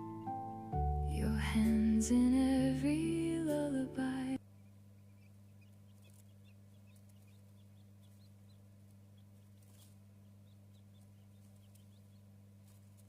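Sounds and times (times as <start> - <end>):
chicks peeping: 0.0 - 13.0
low electrical hum: 0.0 - 13.0.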